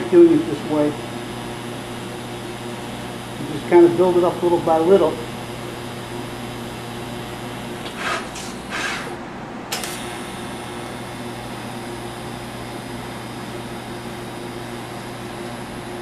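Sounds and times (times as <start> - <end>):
electrical hum: 0.0 - 16.0
welding arc crackle and hiss: 0.0 - 16.0.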